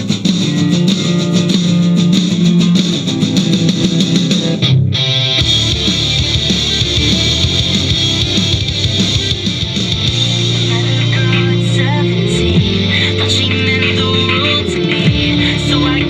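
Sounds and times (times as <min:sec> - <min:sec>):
electric guitar and bass music: 0:00.0 - 0:16.0.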